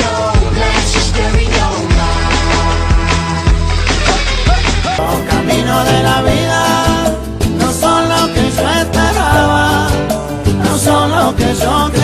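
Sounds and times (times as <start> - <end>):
latin dance song: 0.0 - 12.0.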